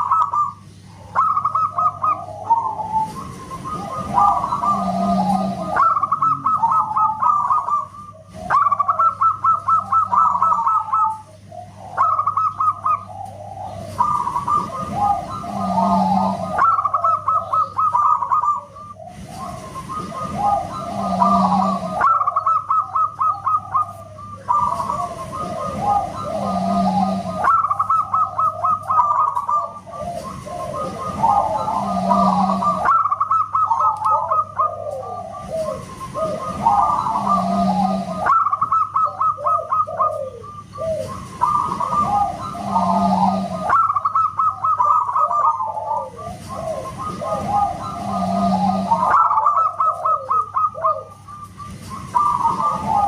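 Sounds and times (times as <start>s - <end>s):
dove cooing: 0.0s - 53.0s
faint low hum: 0.0s - 53.0s.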